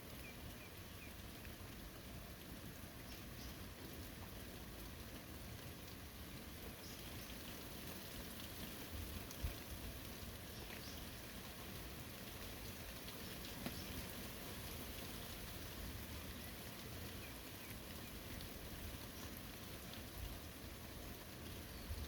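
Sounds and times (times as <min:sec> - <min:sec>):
light rain on foliage: 0:00.0 - 0:22.0
water drips: 0:00.0 - 0:22.0.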